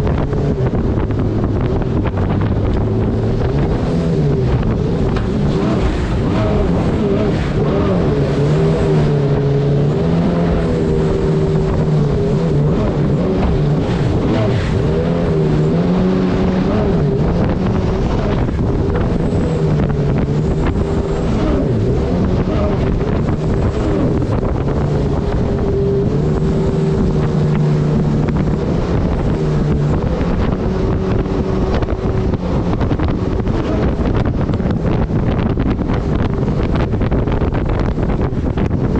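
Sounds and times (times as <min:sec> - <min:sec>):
jet boat engine running: 0:00.0 - 0:38.9
wind noise on microphone: 0:00.0 - 0:38.9.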